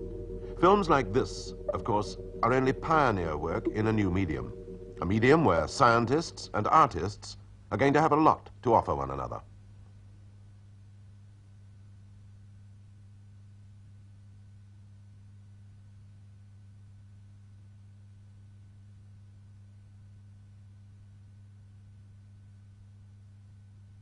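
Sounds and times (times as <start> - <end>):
faint low hum: 0.0 - 24.0
film soundtrack hiss: 0.0 - 24.0.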